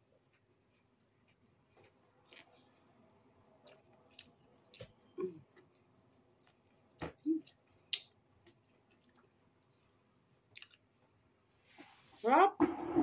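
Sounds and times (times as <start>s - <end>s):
person chewing food: 0.2s - 11.2s.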